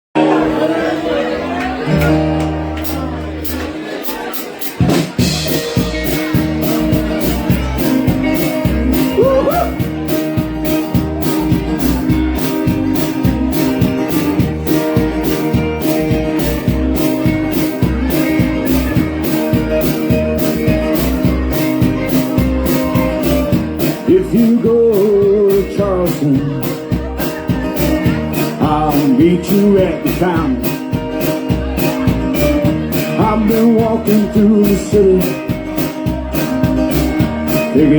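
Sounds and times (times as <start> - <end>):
live rock band playing: 0.2 - 37.9
steady drum beat: 2.0 - 37.9.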